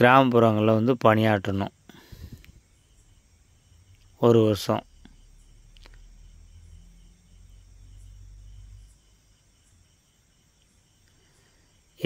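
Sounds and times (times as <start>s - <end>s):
faint insect trill: 0.0s - 12.0s.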